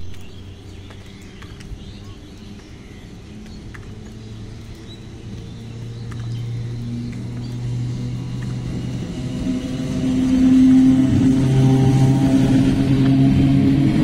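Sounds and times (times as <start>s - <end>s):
low electric hum of train: 0.0s - 14.0s
wheel-on-rail rumble: 0.0s - 14.0s.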